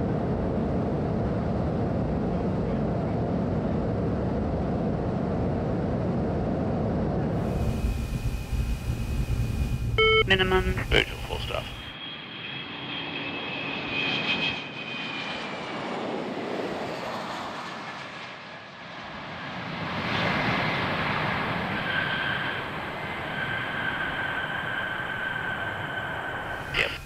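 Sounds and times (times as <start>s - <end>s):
jet engine roar with whine: 0.0s - 27.0s.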